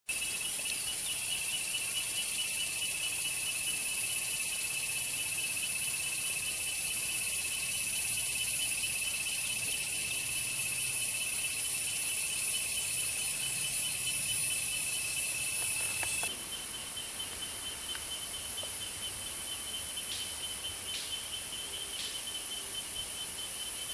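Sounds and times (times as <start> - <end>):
insect chorus trilling: 0.1 - 23.9.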